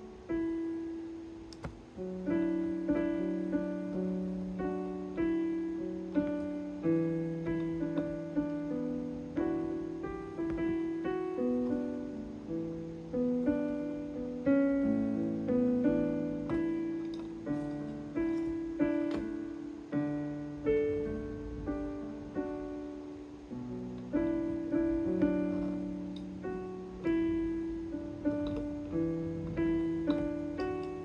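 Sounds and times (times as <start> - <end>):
keyboard playing piano chords: 0.0 - 31.0.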